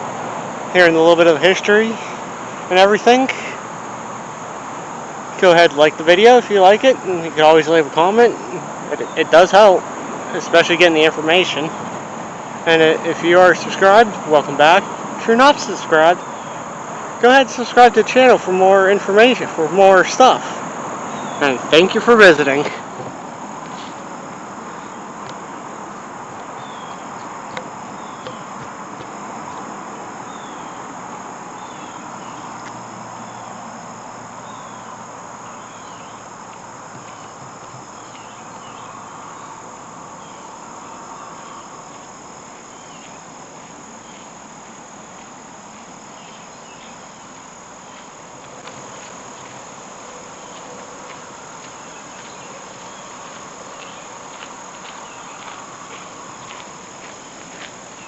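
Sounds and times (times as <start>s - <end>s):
insect chorus high trill: 0.0s - 58.0s.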